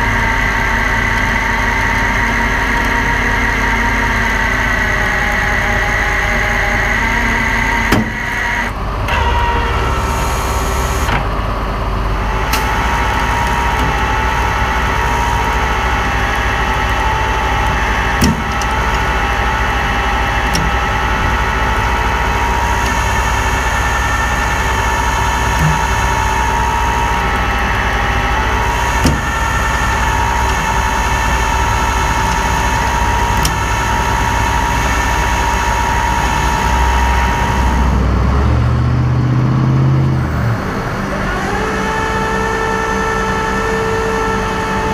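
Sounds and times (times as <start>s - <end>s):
hydraulic winch whine: 0.0s - 44.9s
truck engine running under load: 0.0s - 44.9s.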